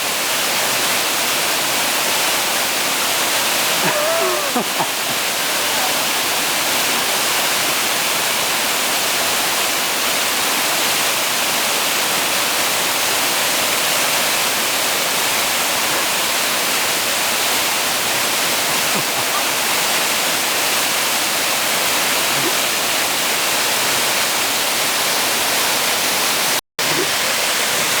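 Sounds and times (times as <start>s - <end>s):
small waterfall rushing: 0.0s - 28.0s.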